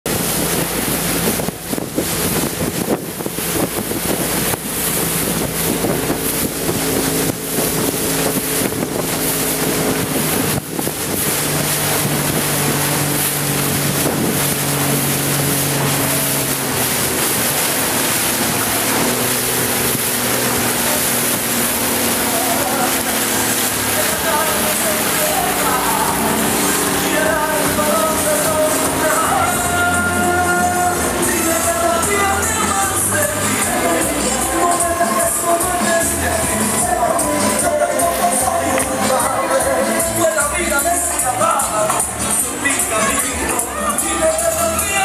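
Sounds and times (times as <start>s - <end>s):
wind buffeting microphone: 0.0s - 37.9s
motorboat engine running: 0.0s - 45.0s
water rushing past hull: 0.0s - 45.0s.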